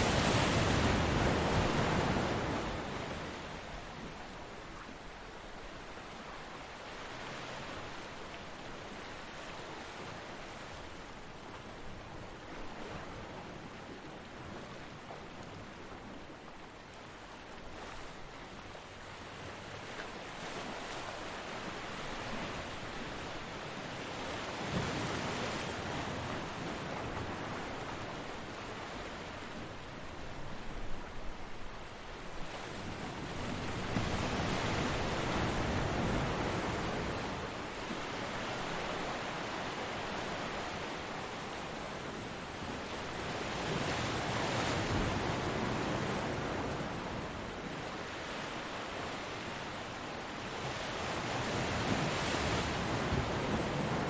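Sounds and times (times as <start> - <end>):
ocean waves breaking: 0.0 - 4.9, 6.7 - 54.0.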